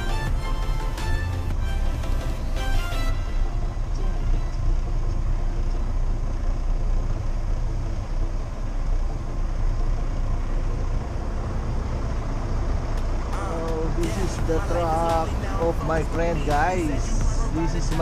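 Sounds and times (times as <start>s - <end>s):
truck diesel engine rumble: 0.0s - 18.0s.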